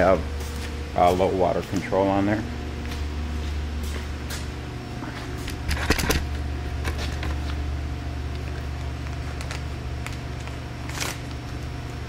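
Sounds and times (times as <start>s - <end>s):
faint steady whine: 0.0s - 12.0s
low machinery hum: 0.0s - 12.0s.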